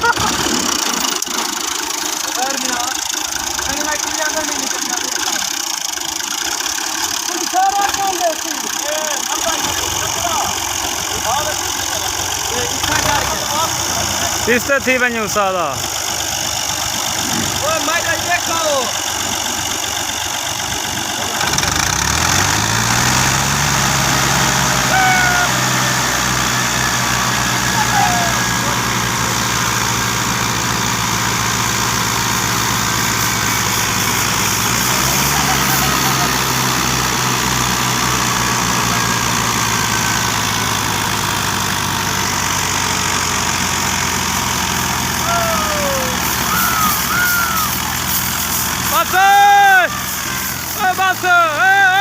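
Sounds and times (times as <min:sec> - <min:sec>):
tractor diesel engine revving: 0:00.0 - 0:52.0.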